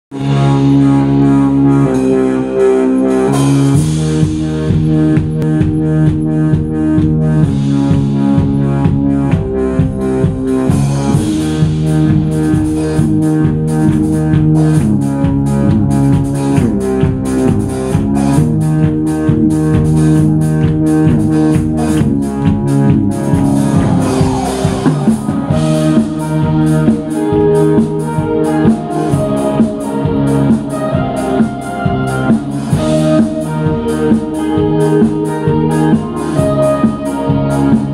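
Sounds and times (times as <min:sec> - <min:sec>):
electric guitars: 0:00.1 - 0:37.9
keyboard: 0:00.1 - 0:37.9
drum kit beat: 0:03.0 - 0:37.9.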